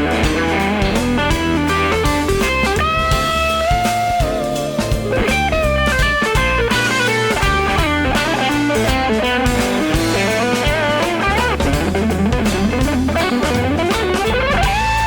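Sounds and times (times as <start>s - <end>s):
bass: 0.0s - 15.0s
drum kit: 0.0s - 15.0s
electric guitar lead: 0.0s - 15.0s.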